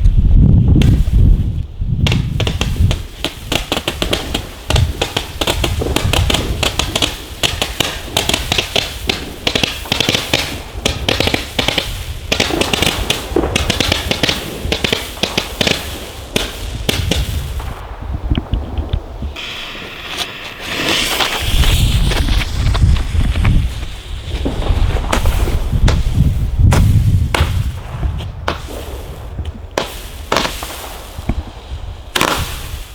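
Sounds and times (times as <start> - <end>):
firework battery pops and crackles: 0.0 - 32.9.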